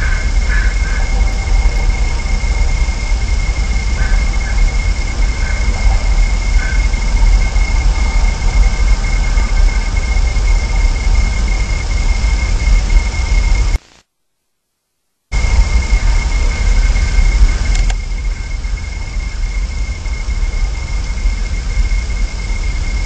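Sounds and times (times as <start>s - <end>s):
loud rumbling noise: 0.0s - 13.8s, 15.3s - 23.0s
high-pitched whine: 0.0s - 14.0s, 15.3s - 23.0s.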